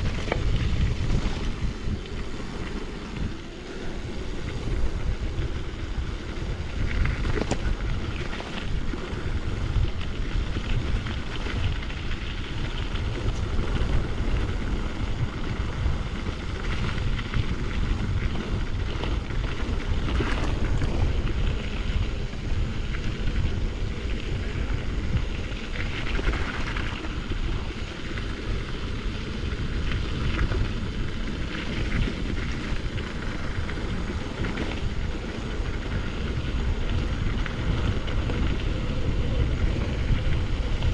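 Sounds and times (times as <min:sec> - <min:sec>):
small rattles and clicks: 0:00.0 - 0:40.9
tyres rolling on trail: 0:00.0 - 0:40.9
wind buffeting microphone: 0:00.0 - 0:40.9.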